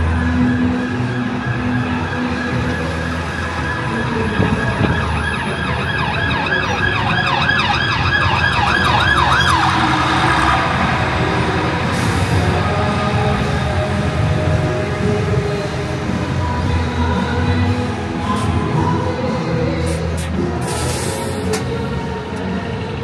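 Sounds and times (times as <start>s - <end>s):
emergency vehicle siren yelping: 0.0s - 19.8s
city street traffic noise: 0.0s - 23.0s.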